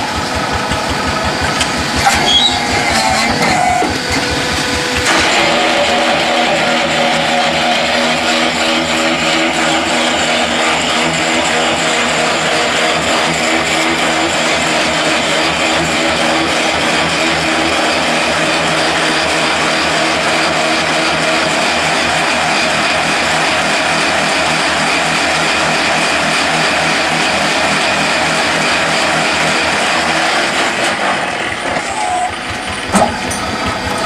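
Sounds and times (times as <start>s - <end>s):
machine hum with fast rattle: 0.0s - 34.0s.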